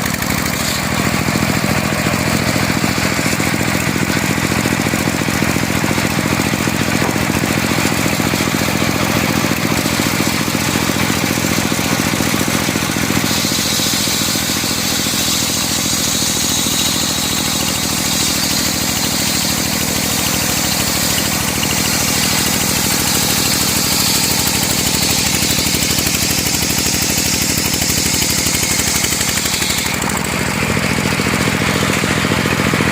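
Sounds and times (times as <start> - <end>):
saw blade whining through wood: 0.0 - 32.9
sawmill engine running: 0.0 - 32.9.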